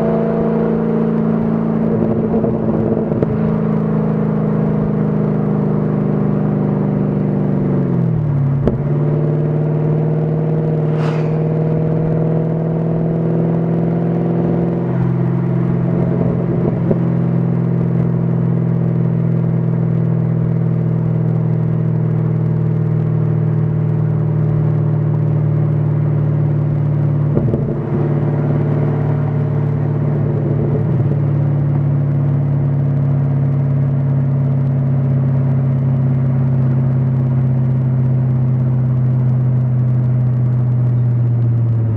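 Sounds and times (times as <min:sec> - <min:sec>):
car engine exhaust at low revs: 0:00.0 - 0:41.9.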